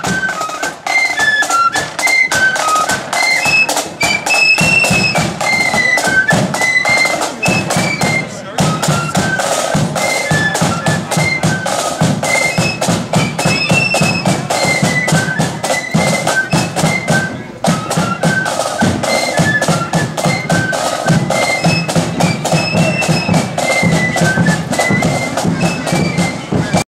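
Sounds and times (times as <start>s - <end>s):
flutes playing in unison: 0.0s - 26.8s
rapid snare drumming: 0.0s - 26.8s.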